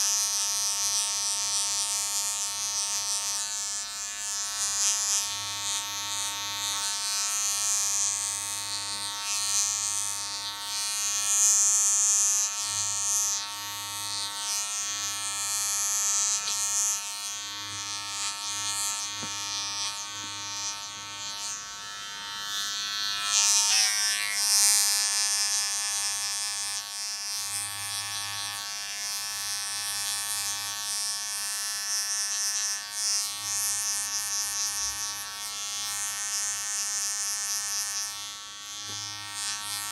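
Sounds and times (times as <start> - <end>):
blades hissing through hair: 0.0 - 39.9
electric hair clippers buzzing: 0.0 - 39.9.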